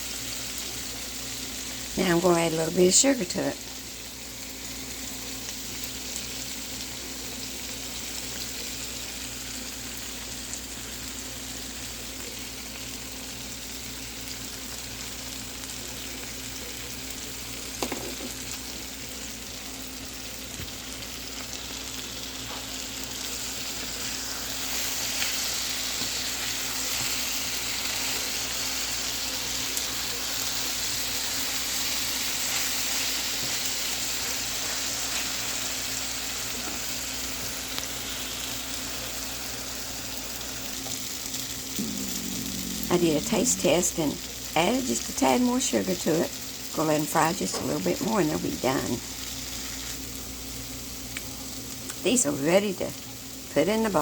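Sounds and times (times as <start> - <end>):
apples and onions sizzling in a pan: 0.0 - 54.0.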